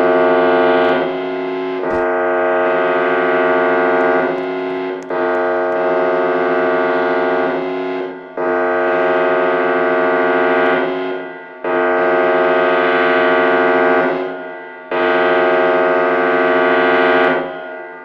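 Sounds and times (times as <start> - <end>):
electronic siren chord: 0.0 - 18.0.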